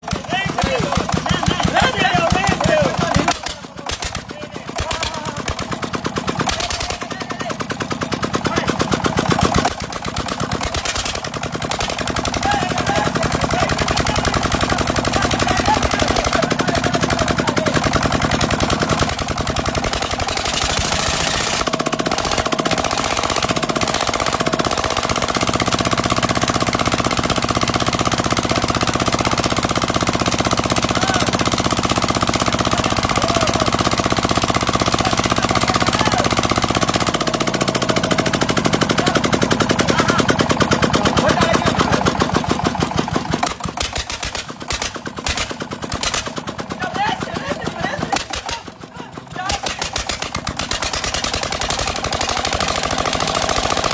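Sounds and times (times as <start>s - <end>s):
diesel engine knocking: 0.0s - 53.9s.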